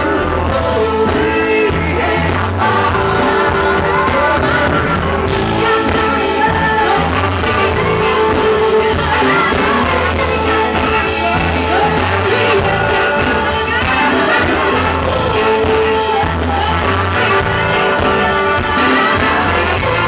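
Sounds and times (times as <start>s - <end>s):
funk band playing: 0.0s - 20.0s
steady bass line: 0.0s - 20.0s
woman singing: 0.0s - 20.0s.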